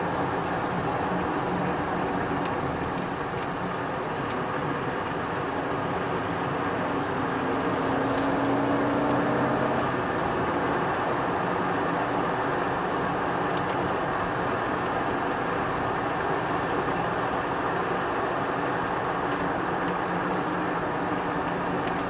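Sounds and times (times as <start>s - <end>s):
car engine: 0.0s - 22.0s.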